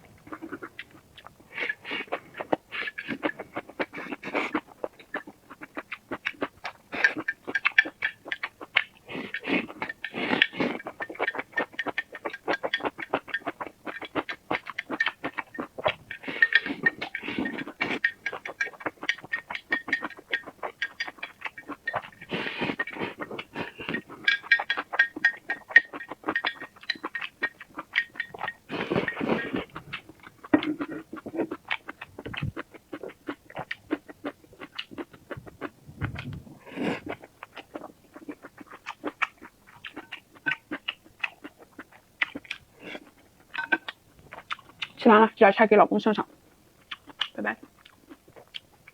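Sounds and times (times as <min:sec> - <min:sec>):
wet chewing and mouth smacking: 0:00.0 - 0:48.9.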